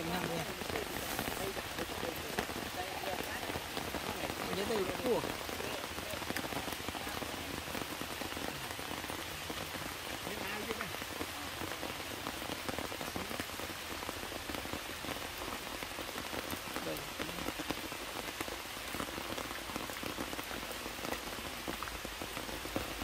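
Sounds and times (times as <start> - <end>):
heavy rain falling: 0.0 - 23.0
raindrops ticking close by: 0.0 - 23.0.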